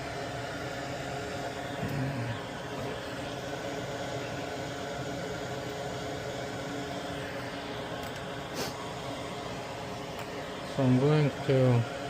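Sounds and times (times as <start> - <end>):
electric fan whirring: 0.0 - 12.0.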